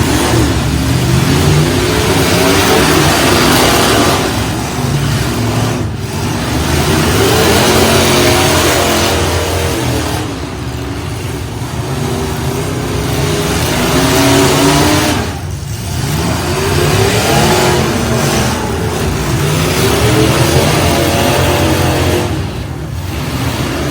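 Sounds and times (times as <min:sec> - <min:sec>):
truck engines revving: 0:00.0 - 0:23.9.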